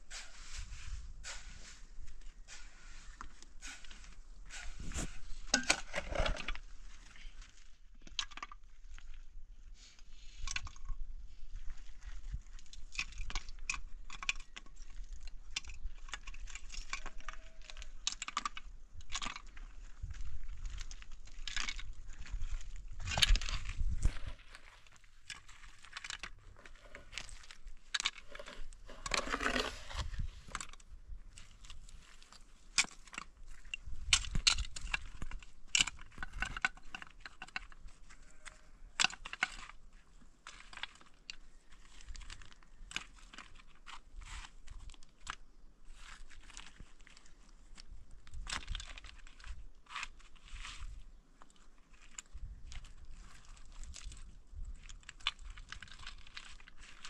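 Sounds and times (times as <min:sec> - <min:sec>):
gravel crunching under hands: 0:10.0 - 0:57.0.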